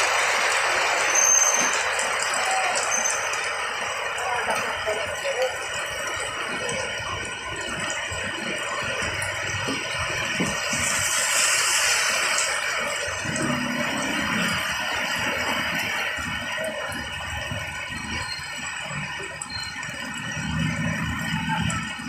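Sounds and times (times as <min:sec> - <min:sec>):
heavy rain pouring: 0:00.0 - 0:22.0
traffic driving through water: 0:00.0 - 0:22.0.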